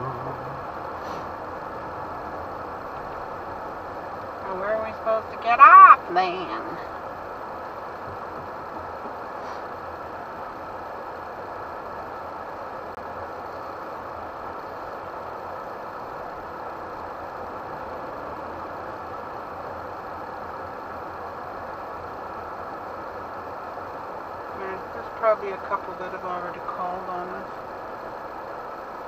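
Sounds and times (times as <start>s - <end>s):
engine and road noise: 0.0s - 29.0s.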